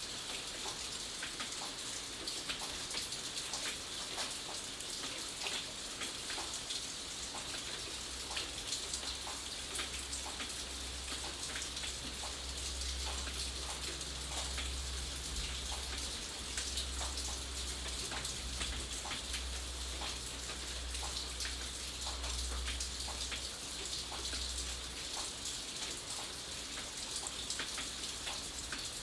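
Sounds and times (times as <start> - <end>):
raindrops clicking on a surface: 0.0 - 29.0
steady rain: 0.0 - 29.0.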